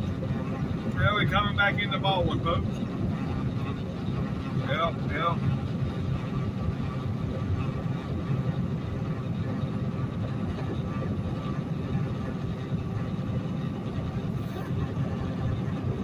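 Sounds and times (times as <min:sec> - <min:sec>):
road rumble: 0:00.0 - 0:16.0
truck diesel engine drone: 0:00.0 - 0:16.0.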